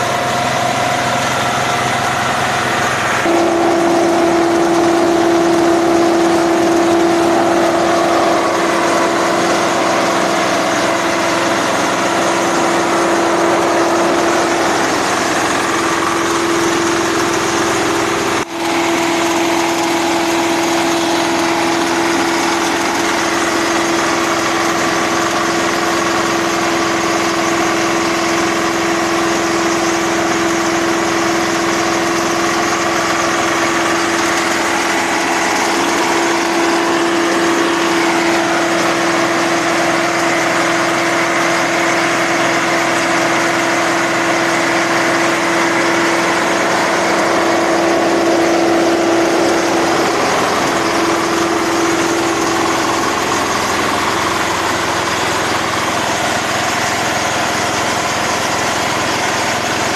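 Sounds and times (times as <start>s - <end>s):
steady whine: 0.0s - 59.2s
diesel engine running: 0.0s - 59.9s.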